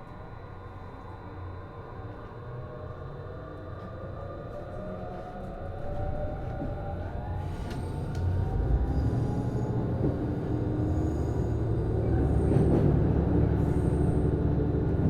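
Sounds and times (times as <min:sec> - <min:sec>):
train running rumble: 0:01.8 - 0:15.0.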